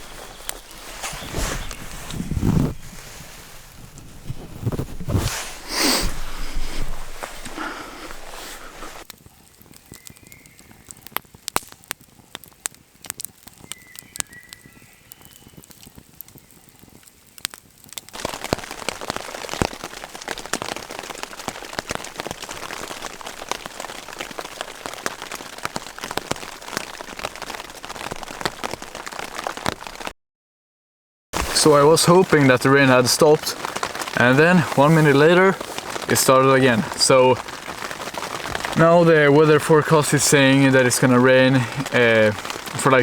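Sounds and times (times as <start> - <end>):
rain on a tarp: 0.0 - 30.1, 31.4 - 43.0.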